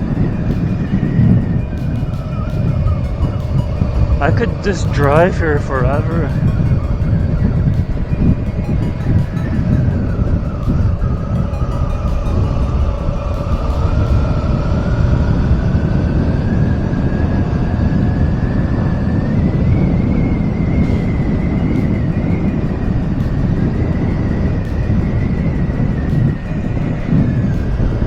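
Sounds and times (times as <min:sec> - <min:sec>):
whine rising in pitch: 0:00.0 - 0:28.0
wind rush: 0:00.0 - 0:28.0.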